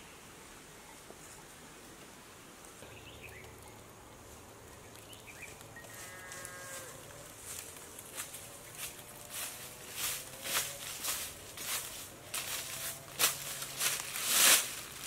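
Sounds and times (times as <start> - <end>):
outdoor ambience: 0.0 - 15.0.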